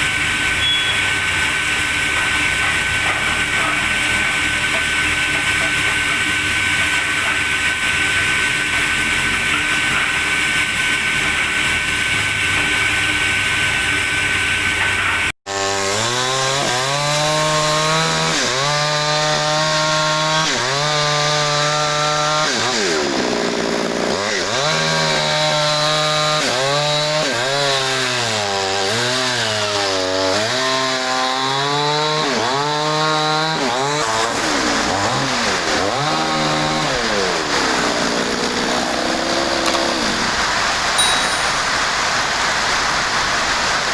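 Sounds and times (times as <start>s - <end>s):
sawmill saw engine under load: 0.0s - 43.9s.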